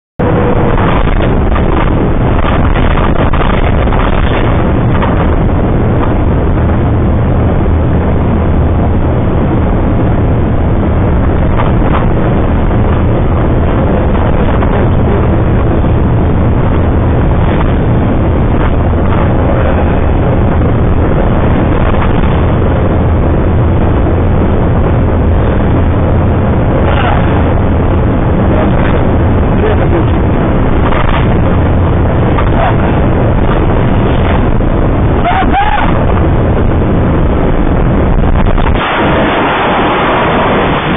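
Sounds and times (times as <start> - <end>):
truck running at highway speed: 0.0 - 40.9.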